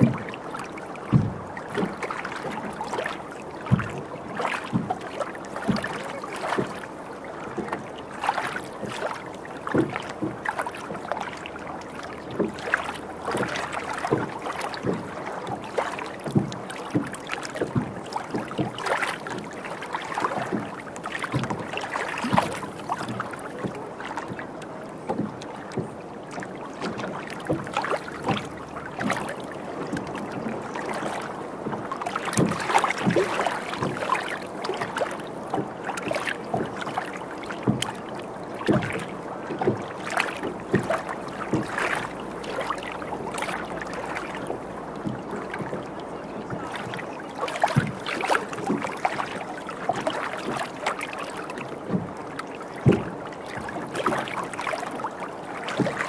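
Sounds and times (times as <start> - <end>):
steady water wash: 0.0 - 56.0
water slapping against boat hull: 0.0 - 56.0.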